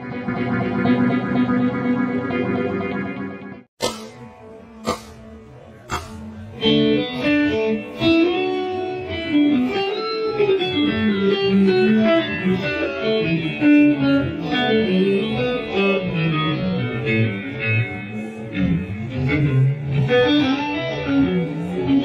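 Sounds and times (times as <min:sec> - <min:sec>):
electric guitar lick: 0:00.0 - 0:22.0.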